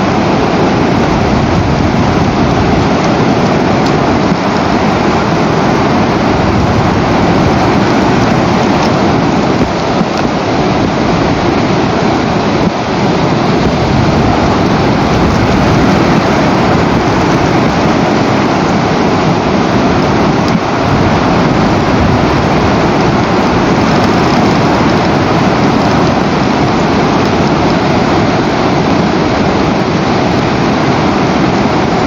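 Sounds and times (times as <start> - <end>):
loud steady rushing noise: 0.0 - 32.0.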